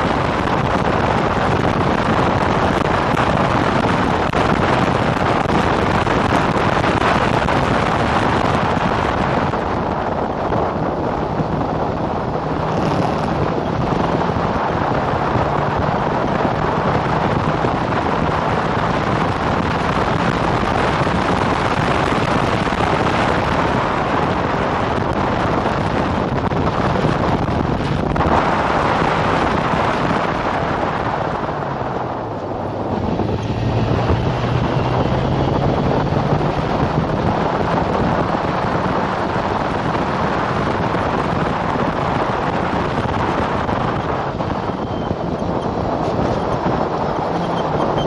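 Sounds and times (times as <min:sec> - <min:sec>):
racing car engine running: 0:00.0 - 0:48.0
wind rushing over microphone: 0:00.0 - 0:48.0.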